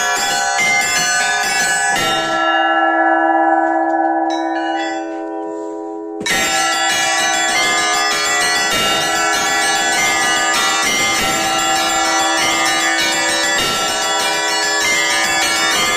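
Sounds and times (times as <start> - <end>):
church bells ringing rapidly: 0.0 - 15.9.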